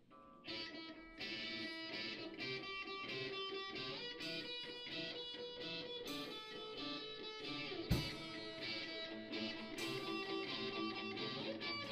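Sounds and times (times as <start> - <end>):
electric guitars strumming chords: 0.0 - 11.9.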